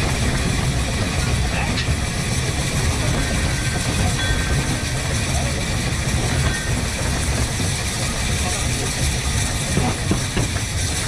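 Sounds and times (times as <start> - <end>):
steam locomotive wheels rumbling: 0.0 - 11.0.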